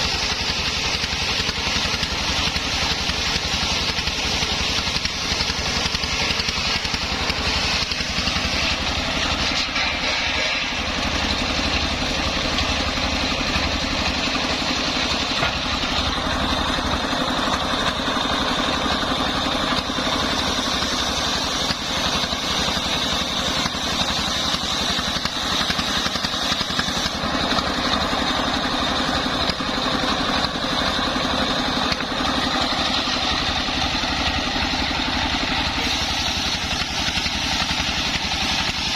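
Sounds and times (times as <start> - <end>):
circular saw engine running: 0.0 - 38.9.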